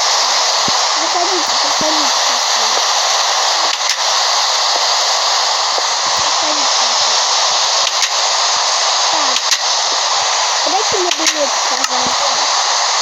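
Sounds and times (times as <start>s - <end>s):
loud steady hiss: 0.0s - 13.0s
faint voices: 0.7s - 8.1s, 9.0s - 12.9s.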